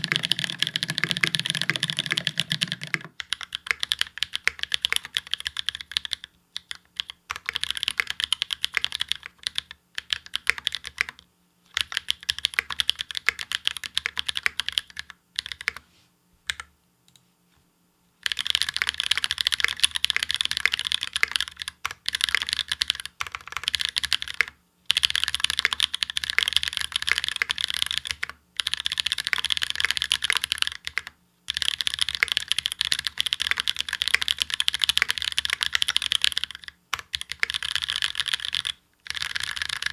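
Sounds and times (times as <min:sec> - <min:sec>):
fast typing on mechanical keyboard: 0:00.0 - 0:15.8, 0:18.2 - 0:39.9.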